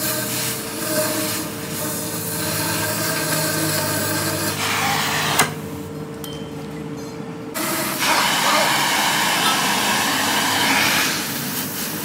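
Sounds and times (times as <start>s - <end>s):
cutting torch hissing: 0.0s - 5.5s, 7.6s - 12.0s.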